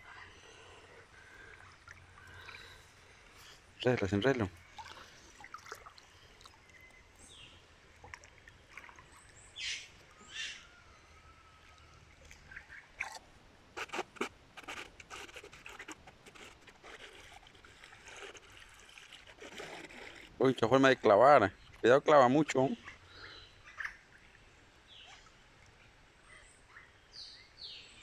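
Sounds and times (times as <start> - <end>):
river water trickling: 0.0 - 27.8.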